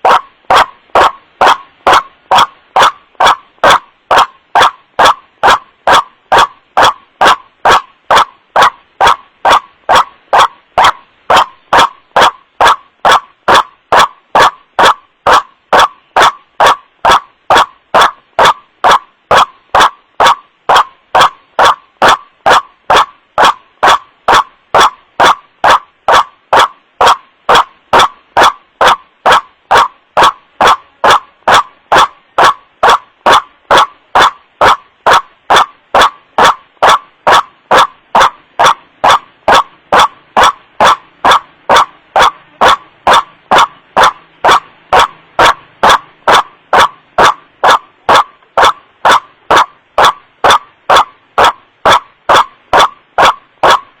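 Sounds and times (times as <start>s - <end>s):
waterhen calling: 0.0s - 52.0s.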